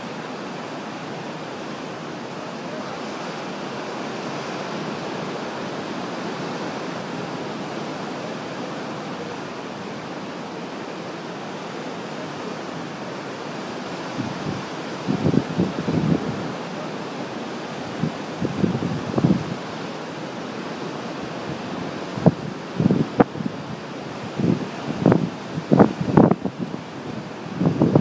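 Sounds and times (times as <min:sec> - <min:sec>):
ocean waves breaking on rocks: 0:00.0 - 0:28.0.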